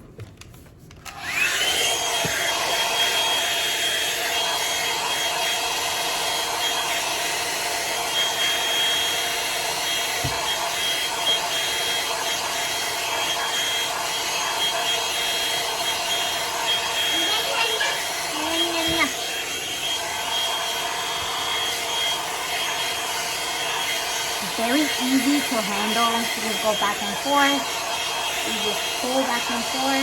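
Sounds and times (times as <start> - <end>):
blow-dryer motor whine: 1.0 - 30.0.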